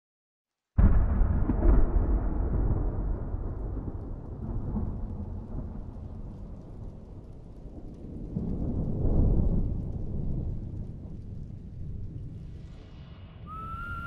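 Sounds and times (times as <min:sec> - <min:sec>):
deep boom with low rumble: 0:00.8 - 0:12.6.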